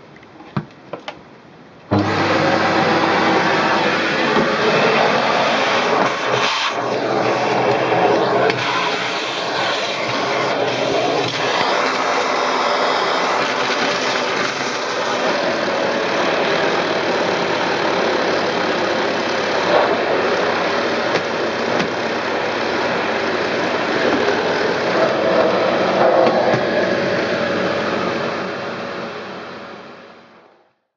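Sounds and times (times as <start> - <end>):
vacuum cleaner running: 1.9 - 30.6.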